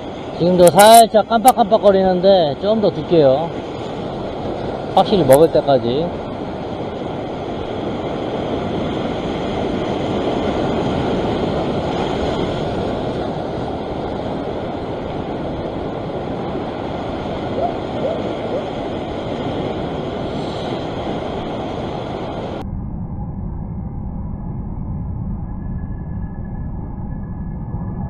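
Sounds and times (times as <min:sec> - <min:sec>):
ocean surf washing over rocks: 0:00.0 - 0:22.6
wind on microphone: 0:02.4 - 0:28.0.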